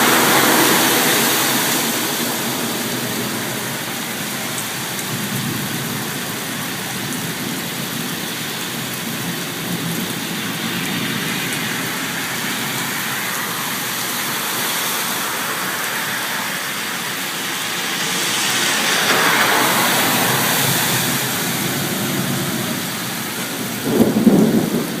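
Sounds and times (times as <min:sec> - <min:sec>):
flowing floodwater: 0:00.0 - 0:25.0
heavy rain: 0:00.0 - 0:25.0.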